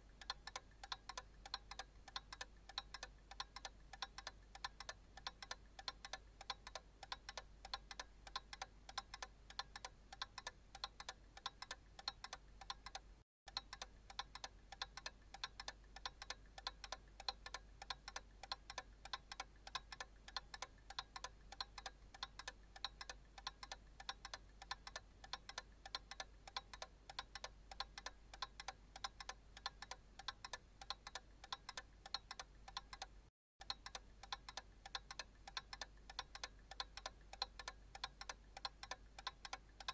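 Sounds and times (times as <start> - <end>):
analog clock ticking: 0.0 - 39.9.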